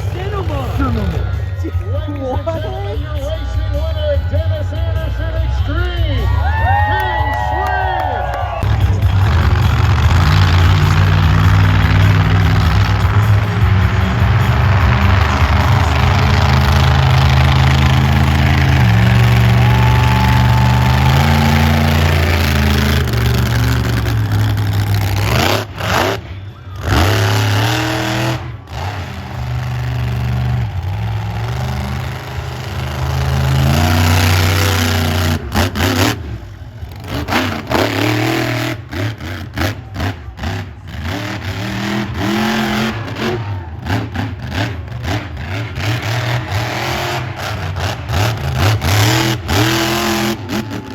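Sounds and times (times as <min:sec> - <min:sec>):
monster truck engine revving: 0:00.0 - 0:03.7, 0:08.3 - 0:50.9.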